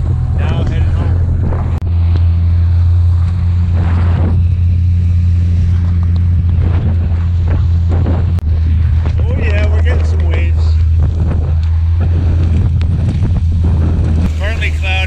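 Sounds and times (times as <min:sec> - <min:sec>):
outboard motor running: 0:00.0 - 0:15.0
water rushing along hull: 0:00.0 - 0:15.0
wind buffeting microphone: 0:00.0 - 0:15.0.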